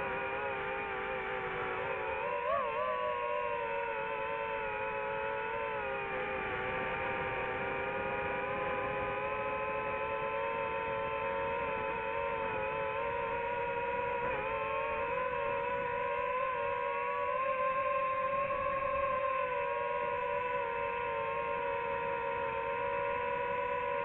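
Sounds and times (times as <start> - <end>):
quadcopter propellers whining: 0.0 - 24.0.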